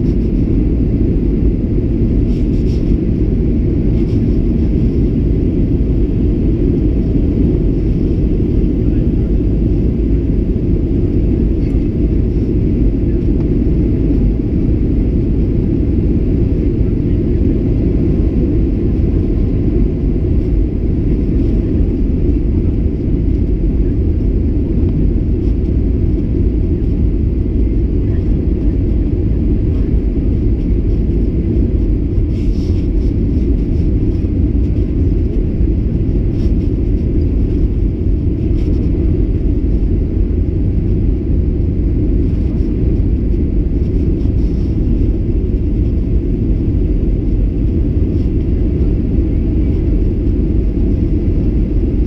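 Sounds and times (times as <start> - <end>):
jet engine cabin rumble: 0.0 - 52.0.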